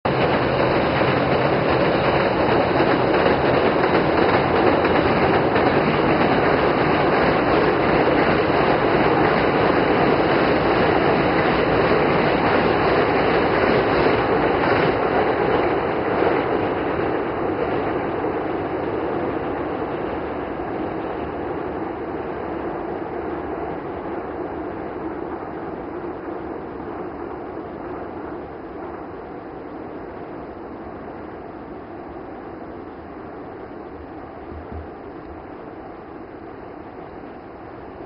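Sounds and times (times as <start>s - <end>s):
train crossing a steel bridge: 0.1s - 38.0s.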